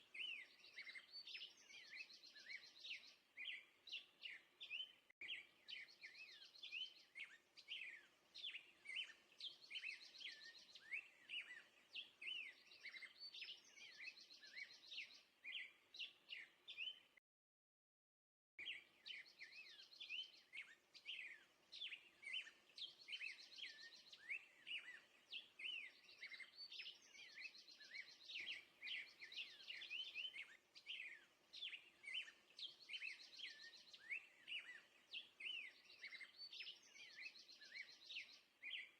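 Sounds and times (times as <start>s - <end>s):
songbirds chirping: 0.0s - 17.2s, 18.6s - 38.9s.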